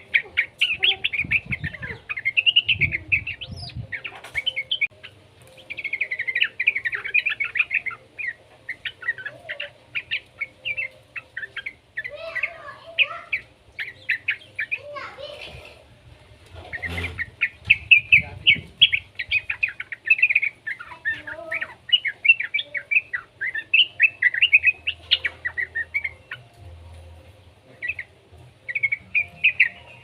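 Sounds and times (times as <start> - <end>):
bird chattering song: 0.0 - 15.8, 16.6 - 30.0.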